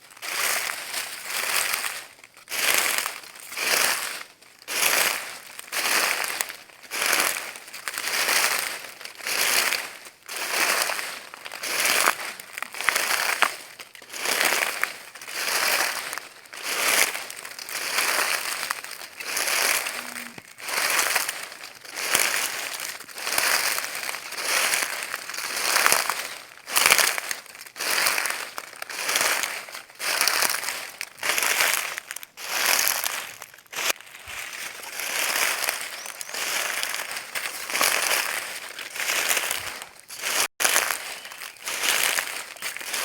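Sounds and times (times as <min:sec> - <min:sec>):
footsteps on dry leaves: 0:00.0 - 0:43.0.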